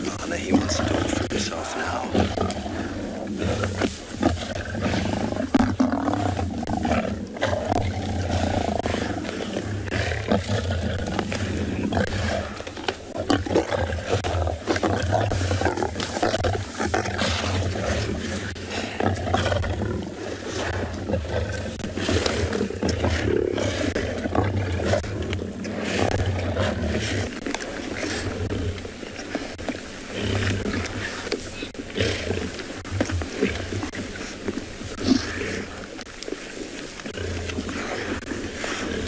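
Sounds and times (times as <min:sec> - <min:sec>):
lions growling and snarling: 0:00.0 - 0:39.0.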